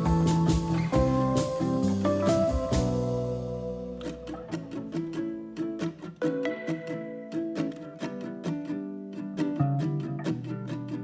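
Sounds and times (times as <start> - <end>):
plucked string instrument music: 0.0 - 11.0.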